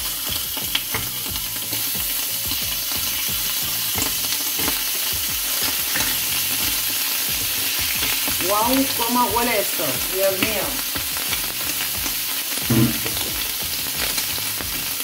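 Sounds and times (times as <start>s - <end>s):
scallops sizzling on griddle: 0.0s - 15.0s.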